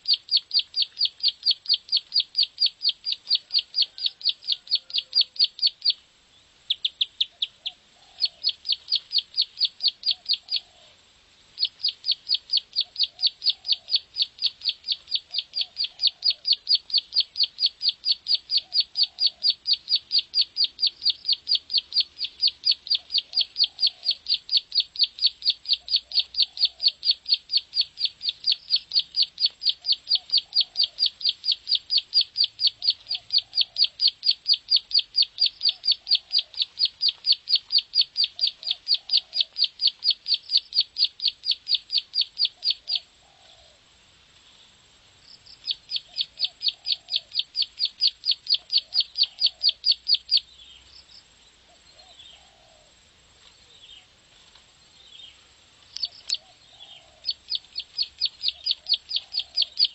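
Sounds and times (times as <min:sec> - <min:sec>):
small bird clicking song: 0:00.0 - 0:06.1, 0:06.7 - 0:10.6, 0:11.6 - 0:43.1, 0:45.4 - 0:51.2, 0:55.8 - 0:59.9.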